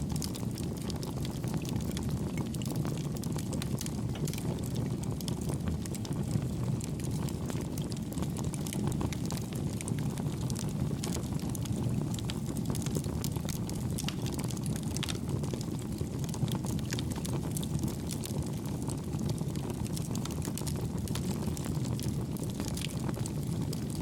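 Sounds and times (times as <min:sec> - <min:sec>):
campfire flame rushing: 0:00.0 - 0:24.0
fire crackles and pops: 0:00.0 - 0:24.0.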